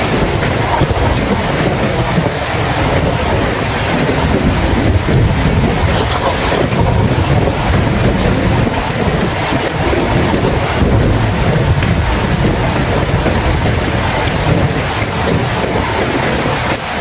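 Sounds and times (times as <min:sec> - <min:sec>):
heavy rain: 0:00.0 - 0:17.0
deep low rumble: 0:00.2 - 0:15.6.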